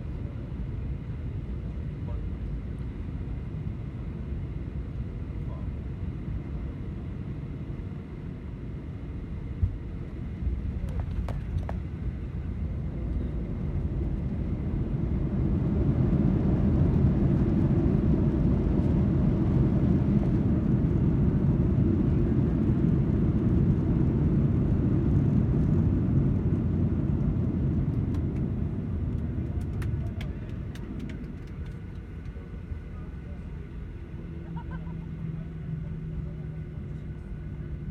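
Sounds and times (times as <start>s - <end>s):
jet engines rumbling: 0.0s - 37.9s.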